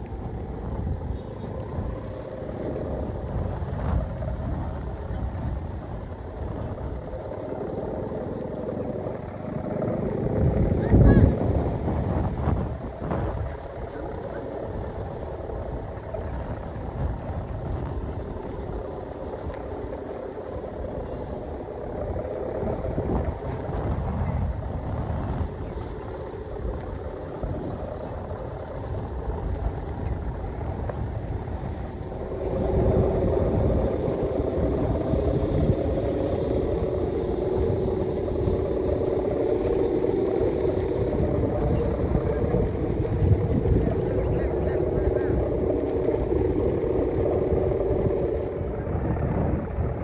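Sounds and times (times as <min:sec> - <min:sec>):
steady droning hum: 0:00.0 - 0:50.0
strong wind buffeting microphone: 0:00.0 - 0:50.0.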